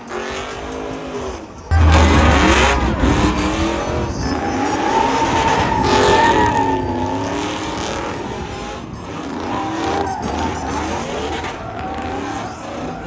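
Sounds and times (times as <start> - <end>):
truck engine revving hard: 1.7 - 13.0.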